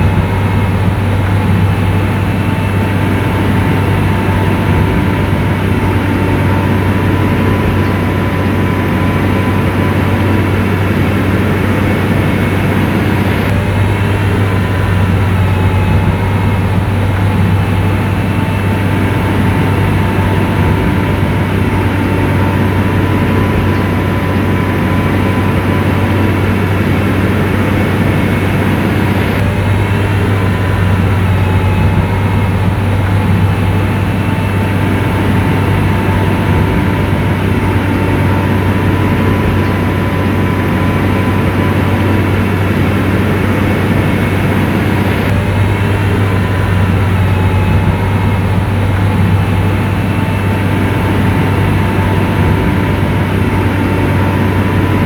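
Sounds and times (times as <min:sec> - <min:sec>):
diesel engine running: 0:00.0 - 0:55.0
faint steady whine: 0:00.0 - 0:55.0.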